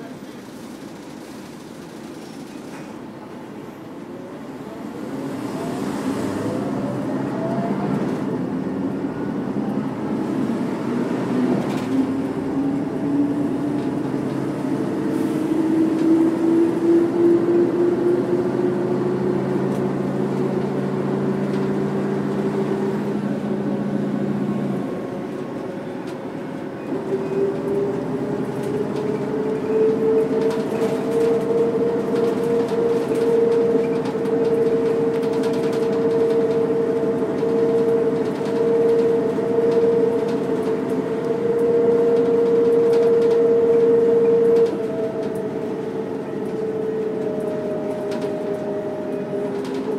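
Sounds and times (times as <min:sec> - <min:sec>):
bus drivetrain whine: 0:00.0 - 0:49.9.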